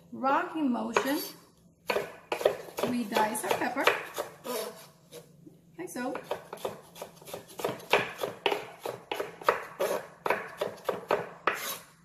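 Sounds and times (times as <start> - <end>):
knife chopping on wooden board: 1.0 - 5.2, 6.1 - 11.8.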